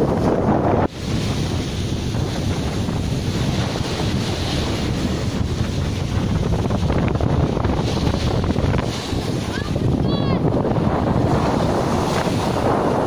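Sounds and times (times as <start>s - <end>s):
wind buffeting microphone: 0.0s - 13.0s
small surf breaking on sand: 0.8s - 13.0s.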